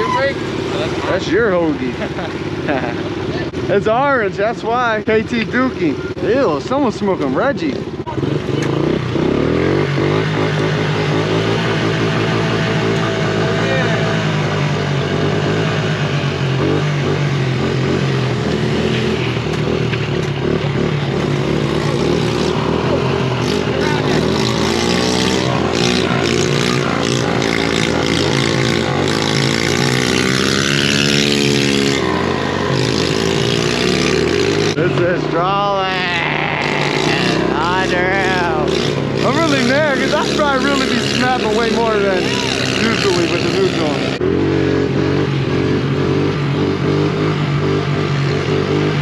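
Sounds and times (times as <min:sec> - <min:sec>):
pit bike engines revving: 0:00.0 - 0:49.0.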